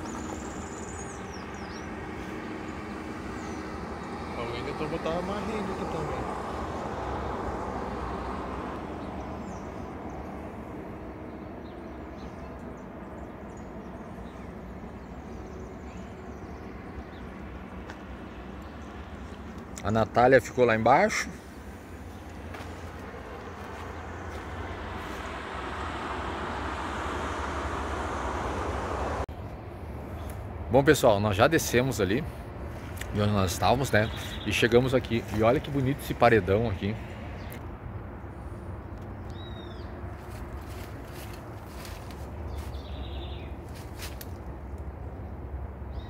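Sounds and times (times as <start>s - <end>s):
distant road traffic rumble: 0.0s - 46.0s.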